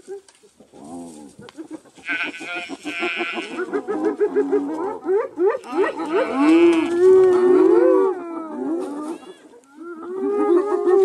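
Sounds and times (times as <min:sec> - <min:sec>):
animals calling: 0:00.0 - 0:11.0.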